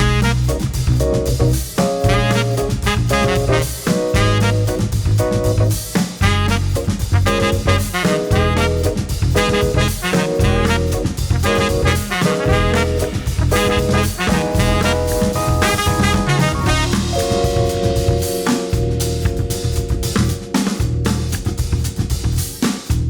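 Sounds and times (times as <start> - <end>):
swing jazz with brass and drums: 0.0 - 23.0.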